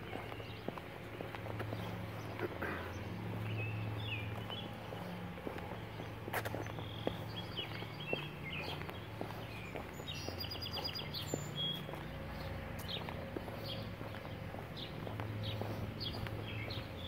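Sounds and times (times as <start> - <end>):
footsteps: 0.0 - 17.0
songbirds chirping: 0.0 - 17.0.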